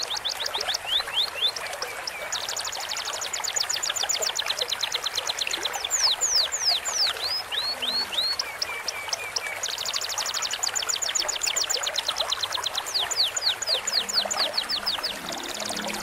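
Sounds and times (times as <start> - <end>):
babbling stream: 0.0 - 16.0
birds singing: 0.0 - 16.0
rapid ticking bird trill: 0.0 - 16.0.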